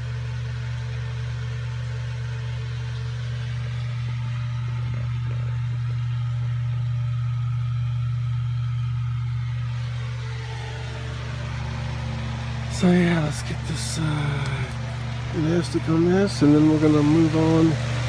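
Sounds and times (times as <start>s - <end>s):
low mechanical engine hum: 0.0s - 18.0s.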